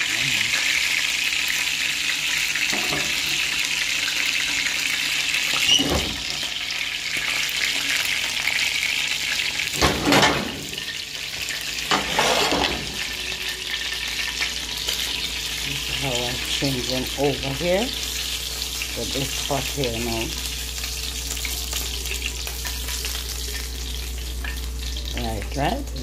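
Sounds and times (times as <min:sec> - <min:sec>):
chicken sizzling in frying pan: 0:00.0 - 0:26.0.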